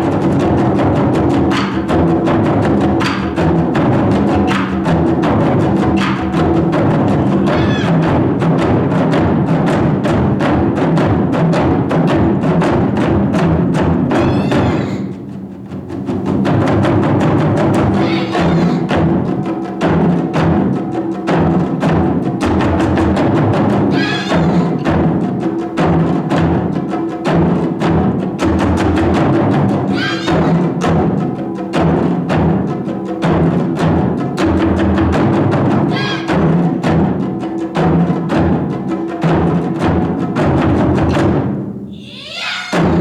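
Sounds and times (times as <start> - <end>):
taiko drums ensemble: 0.0 - 43.0.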